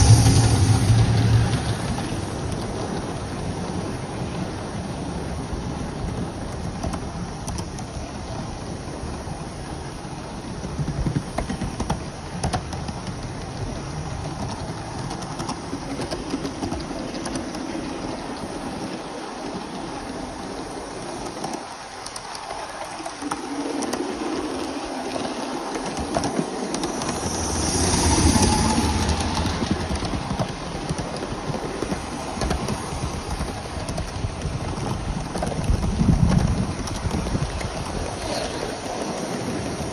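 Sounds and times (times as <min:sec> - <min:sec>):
steam locomotive hissing: 0:00.0 - 0:06.2, 0:08.0 - 0:35.2.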